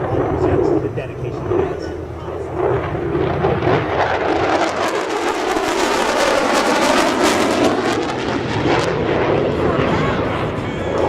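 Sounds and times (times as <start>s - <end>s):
jet roaring past: 0.0s - 11.0s.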